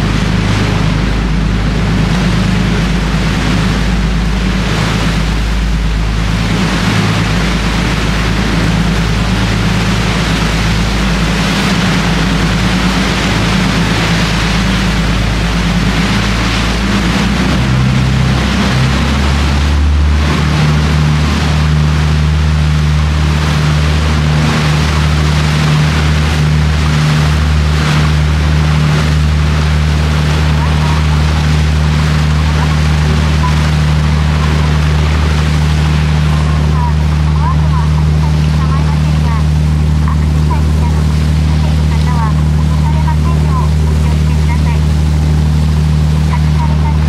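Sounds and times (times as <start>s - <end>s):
boat engine running: 0.0s - 47.0s
water rushing and splashing: 0.0s - 47.0s.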